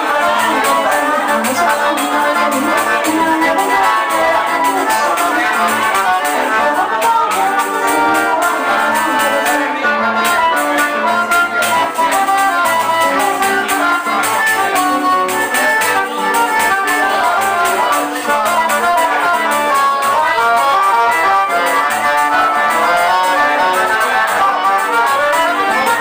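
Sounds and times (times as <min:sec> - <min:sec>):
accordion melody: 0:00.0 - 0:26.0
guitar: 0:00.0 - 0:26.0
hand percussion beat: 0:00.0 - 0:26.0.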